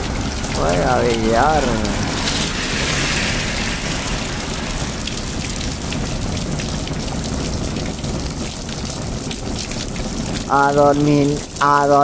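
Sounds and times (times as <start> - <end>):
sharp raindrop ticks: 0.0 - 12.0
steady rain hiss: 0.0 - 12.0.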